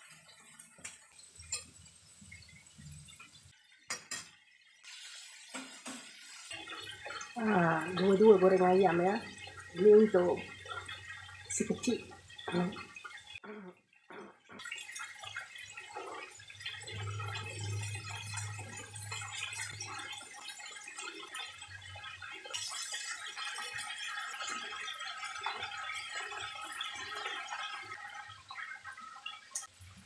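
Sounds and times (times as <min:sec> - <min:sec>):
chicken deep-frying in hot oil: 0:00.0 - 0:30.0.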